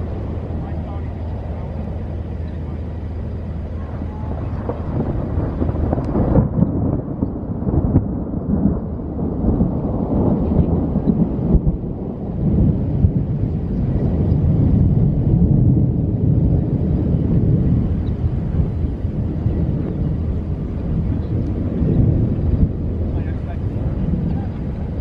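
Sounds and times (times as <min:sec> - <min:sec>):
thunder cracks: 0:00.0 - 0:25.0
thunder rumbling: 0:00.0 - 0:25.0.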